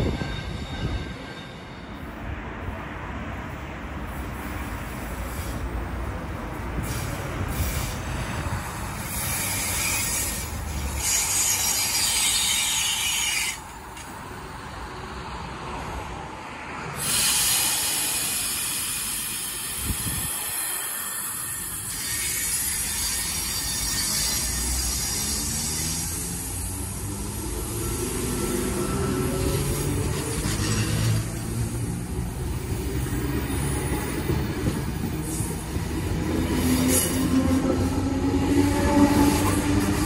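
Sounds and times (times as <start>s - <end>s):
train wheels rumbling on rails: 0.0s - 14.7s, 17.0s - 40.0s.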